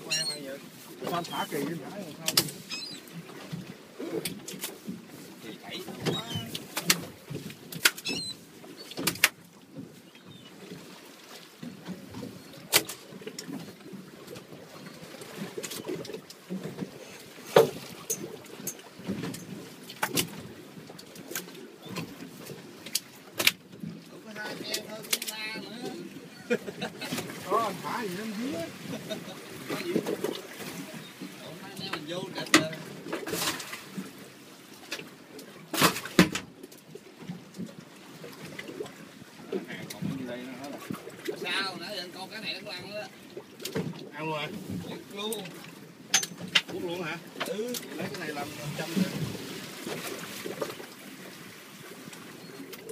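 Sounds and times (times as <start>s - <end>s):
sea noise: 0.0s - 52.9s
water slapping against boat hull: 0.0s - 52.9s
wind: 0.0s - 52.9s.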